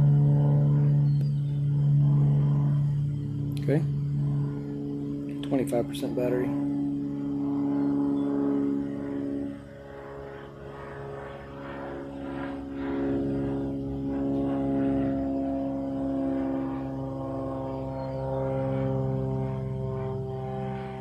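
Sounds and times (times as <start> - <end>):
aircraft propeller hum: 0.0 - 21.0.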